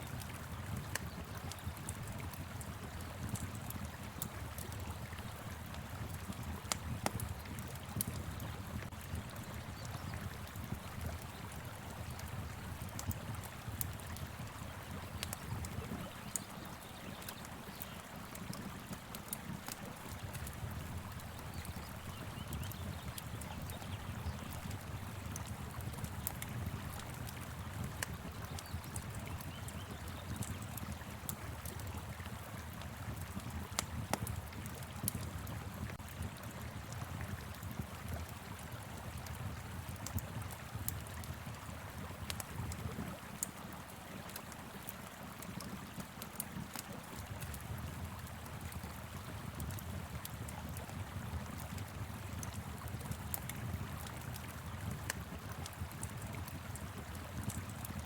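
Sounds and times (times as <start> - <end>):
wind: 0.0 - 58.0
wood fire crackling and popping: 0.1 - 58.0.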